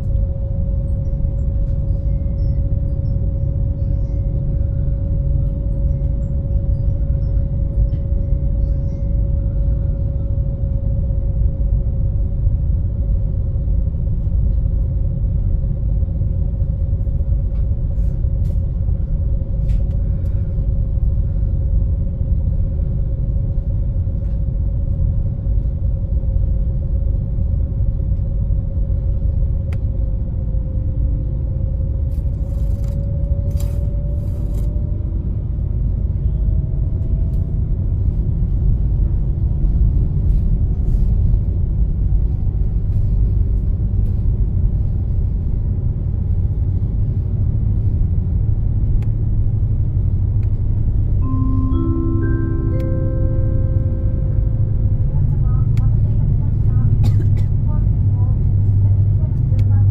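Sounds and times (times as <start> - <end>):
engine whine: 0.0 - 59.9
ferry engines low rumble: 0.0 - 59.9.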